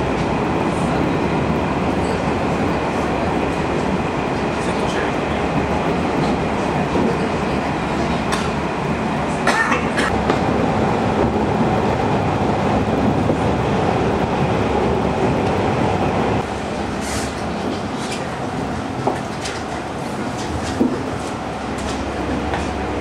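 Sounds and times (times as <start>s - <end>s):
railcar rumbling along line: 0.0s - 23.0s.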